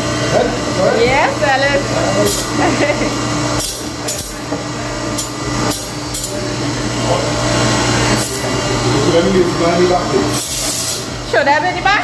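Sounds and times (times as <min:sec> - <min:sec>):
bench grinder humming: 0:00.0 - 0:12.0.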